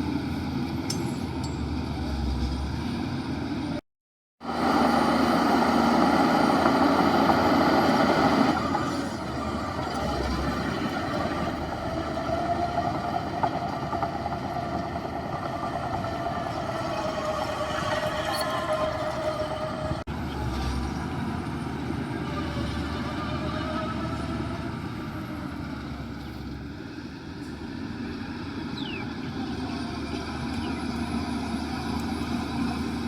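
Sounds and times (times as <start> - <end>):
heavy diesel machinery running: 4.4 - 33.0.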